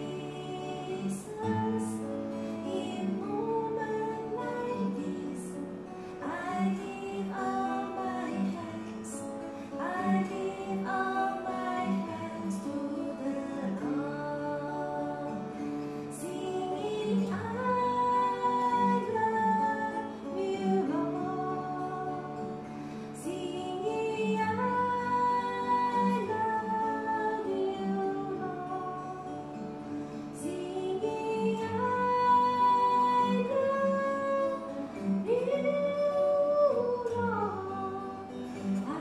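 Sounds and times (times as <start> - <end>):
plucked string instrument: 0.0 - 39.0
woman singing slow song: 0.0 - 39.0.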